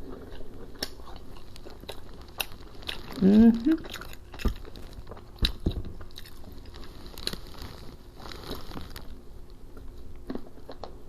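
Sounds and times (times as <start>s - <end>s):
chewing crunchy fried food: 0.0s - 11.0s.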